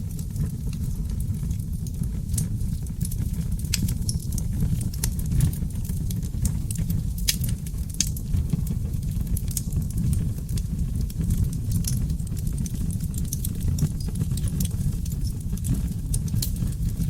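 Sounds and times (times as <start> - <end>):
fire crackling and popping: 0.0 - 17.0
logs burning in fireplace: 0.0 - 17.0.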